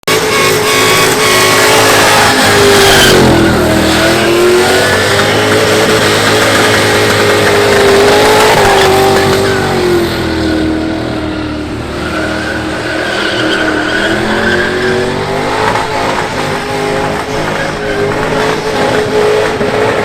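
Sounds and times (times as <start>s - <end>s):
car engine at high revs: 0.0s - 20.0s
tyres squealing: 0.4s - 10.2s, 11.9s - 20.0s.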